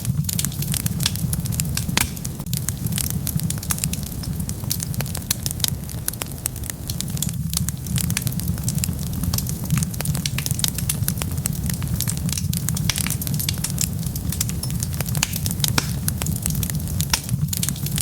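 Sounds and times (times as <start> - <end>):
low rumble of burning: 0.0 - 18.0
wood fire crackling: 0.0 - 18.0.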